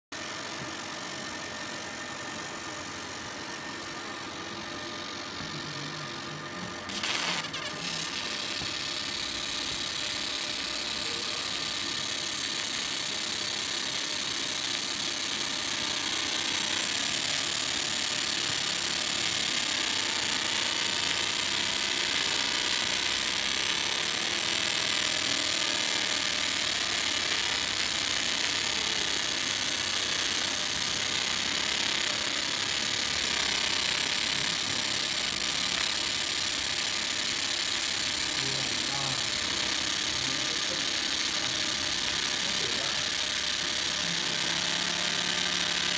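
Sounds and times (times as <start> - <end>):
laser engraving hiss: 0.2 - 45.9.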